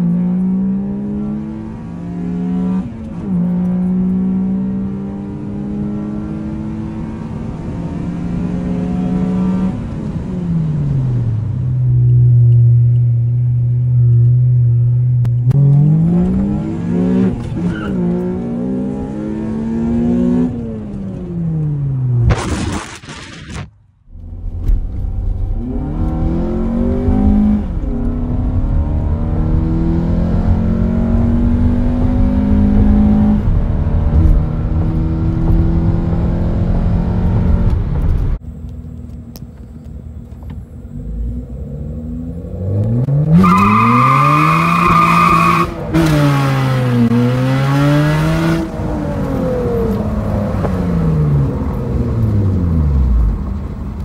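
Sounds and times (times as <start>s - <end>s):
car engine high whine: 0.0s - 22.6s, 24.0s - 54.0s
car engine at full throttle: 0.0s - 54.0s.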